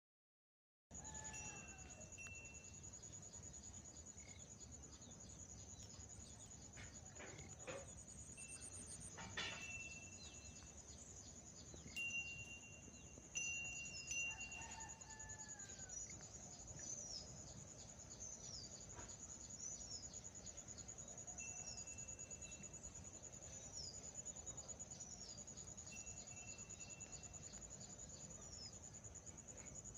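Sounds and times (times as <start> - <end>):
insects chirring: 1.0 - 29.9.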